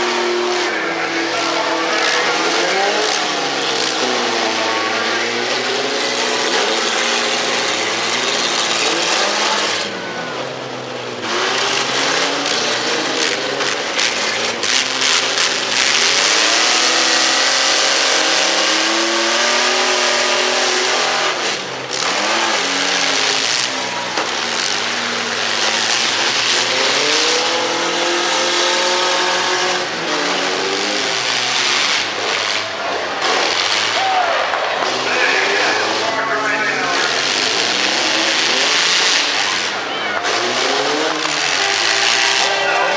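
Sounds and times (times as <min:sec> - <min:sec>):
mini-truck engines revving: 0:00.0 - 0:42.9.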